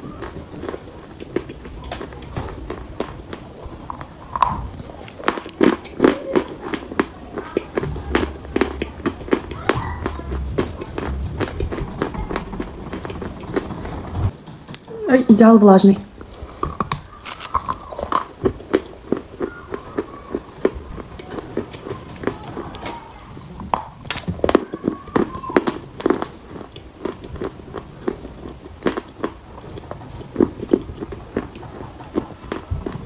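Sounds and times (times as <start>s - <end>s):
chalk being chewed: 0.0s - 13.7s, 16.0s - 33.0s.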